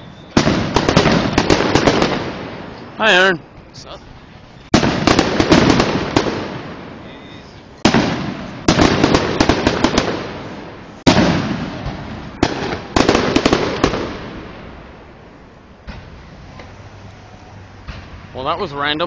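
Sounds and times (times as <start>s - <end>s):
fireworks crackling pops: 0.0s - 3.9s, 4.7s - 15.1s, 15.8s - 18.6s
fireworks booming: 0.0s - 4.0s, 4.7s - 16.9s, 17.6s - 18.7s
echoing rumble: 0.0s - 18.6s.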